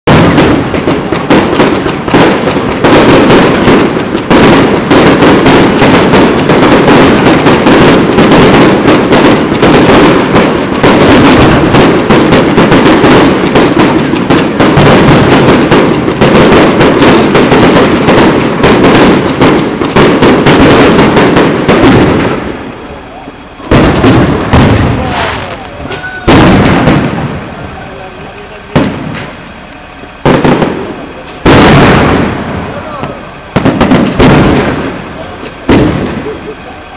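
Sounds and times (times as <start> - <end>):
fireworks banging and crackling: 0.0 - 36.9.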